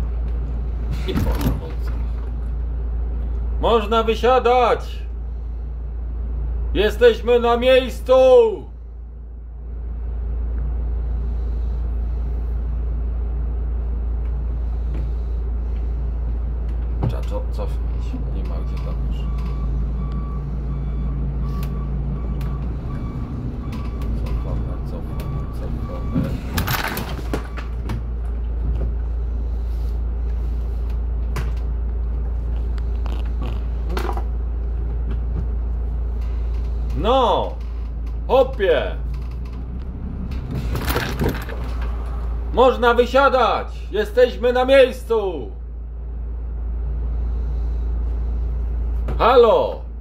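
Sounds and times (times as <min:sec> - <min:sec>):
bus engine rumbling: 0:00.0 - 0:50.0.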